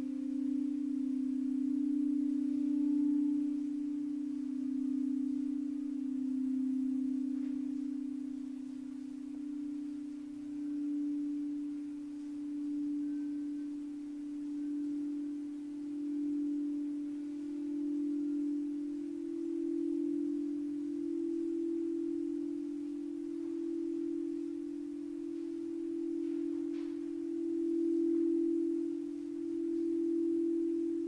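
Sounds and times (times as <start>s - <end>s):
singing bowl tone: 0.0s - 31.0s.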